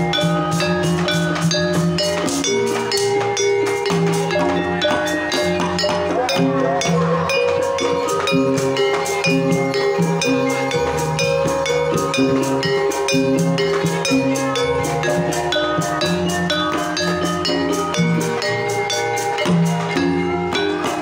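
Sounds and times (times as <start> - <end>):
hand drums struck quickly: 0.0 - 21.0
ringing bronze metallophones: 0.0 - 21.0.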